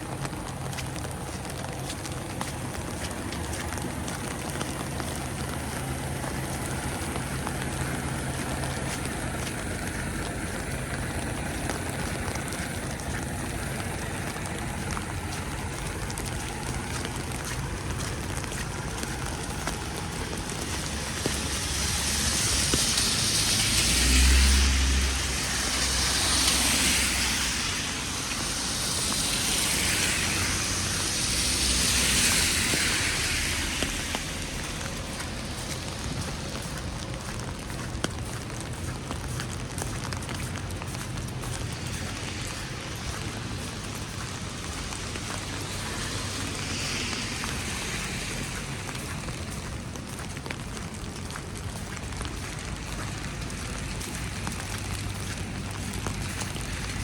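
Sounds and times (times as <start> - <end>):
steady outdoor hiss: 0.0 - 57.0
vehicles passing on road: 0.0 - 57.0.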